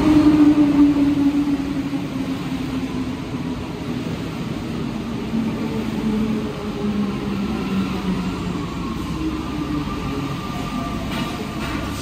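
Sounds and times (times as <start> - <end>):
metro train rolling rumble: 0.0 - 12.0.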